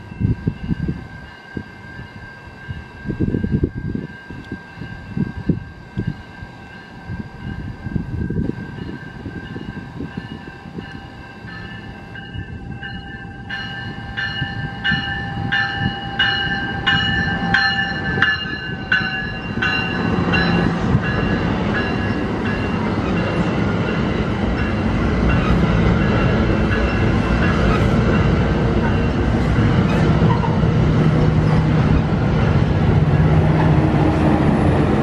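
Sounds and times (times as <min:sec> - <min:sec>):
railway bell ringing: 0:00.0 - 0:35.0
train rumbling past: 0:00.0 - 0:35.0.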